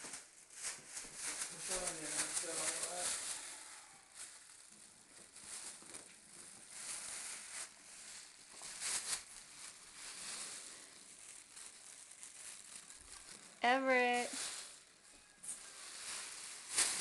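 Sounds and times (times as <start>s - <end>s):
plastic bag rustling and crinkling: 0.0s - 17.0s.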